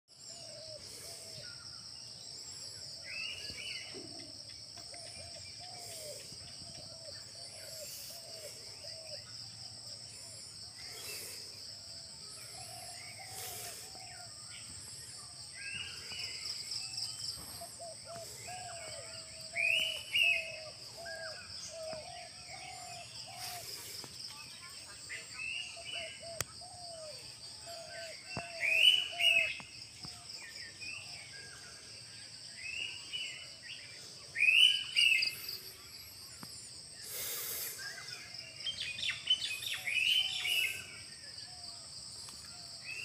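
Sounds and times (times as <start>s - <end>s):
birds chirping and calling: 0.1s - 31.9s, 32.5s - 41.6s.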